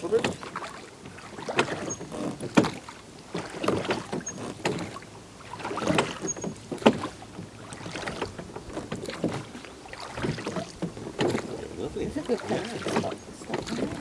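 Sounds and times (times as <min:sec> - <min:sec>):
oar knocking: 0:00.0 - 0:14.0
oar splashing water: 0:00.0 - 0:14.0.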